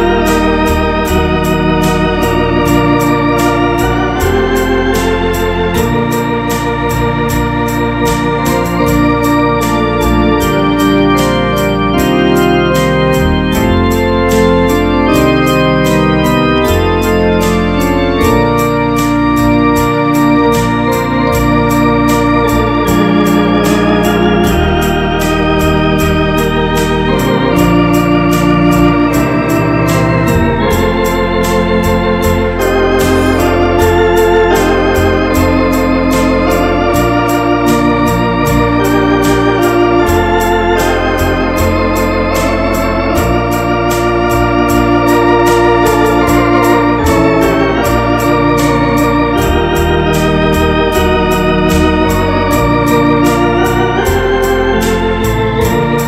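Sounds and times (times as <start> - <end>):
electronic organ playing hymn: 0.0 - 56.0
steady ticking beat: 0.0 - 56.0.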